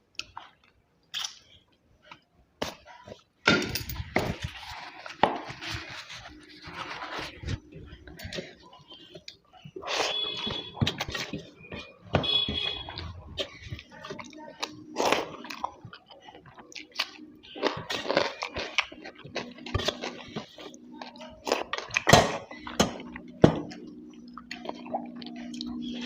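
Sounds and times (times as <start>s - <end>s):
person chewing and eating: 0.0s - 26.0s.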